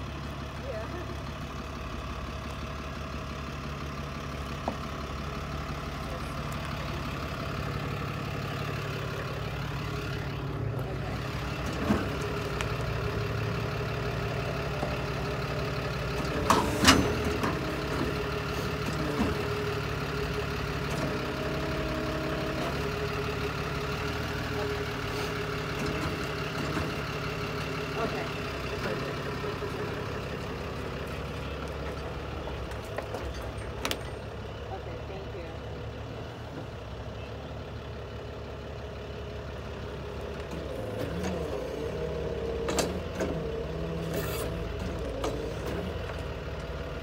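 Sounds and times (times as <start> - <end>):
truck engine running at low revs: 0.0 - 47.0.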